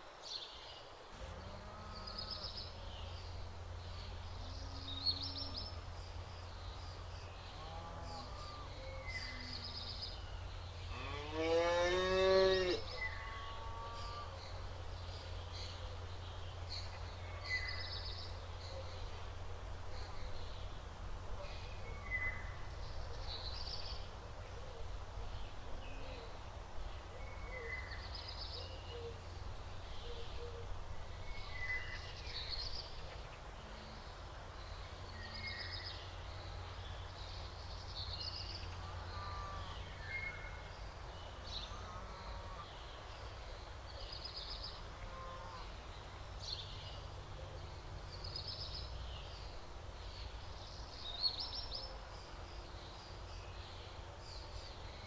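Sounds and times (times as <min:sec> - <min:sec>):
low outdoor rumble: 0:00.9 - 0:55.0.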